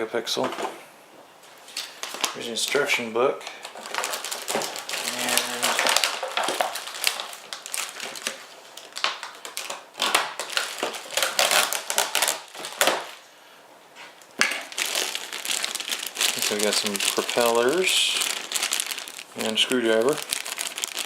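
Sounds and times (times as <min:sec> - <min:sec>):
packaging crinkling: 0:01.6 - 0:13.2, 0:14.4 - 0:21.0.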